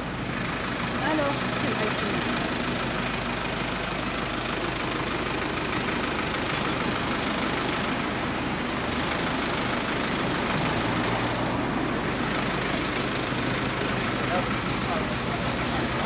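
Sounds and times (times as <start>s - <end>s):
street traffic: 0.0s - 16.0s
vehicle engine running: 0.0s - 16.0s.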